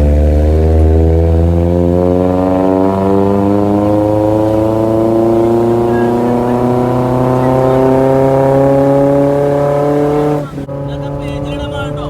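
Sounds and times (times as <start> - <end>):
vehicle engine revving under load: 0.0 - 12.0.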